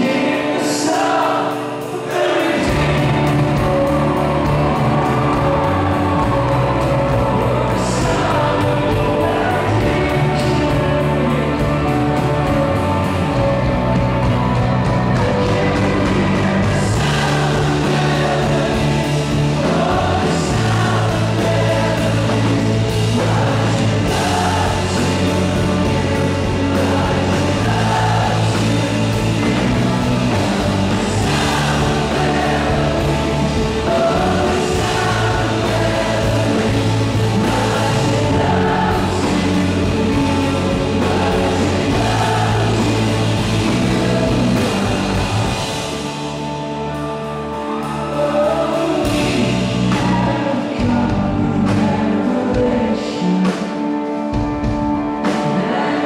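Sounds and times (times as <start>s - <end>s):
man singing lead: 0.0s - 46.2s, 47.6s - 56.0s
live rock band: 0.0s - 56.0s.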